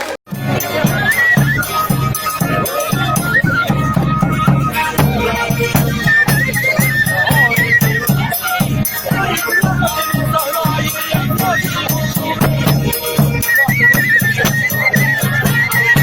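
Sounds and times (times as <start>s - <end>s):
ornamented folk dance melody: 0.0s - 16.0s
rhythmic bass beat: 0.3s - 16.0s.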